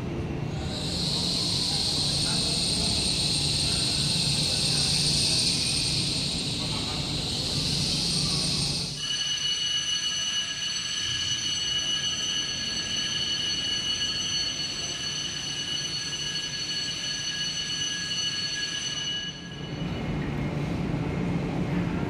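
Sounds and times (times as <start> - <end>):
train low rumble: 0.0 - 9.0, 10.5 - 22.0
high-pitched train squeal: 0.5 - 20.3.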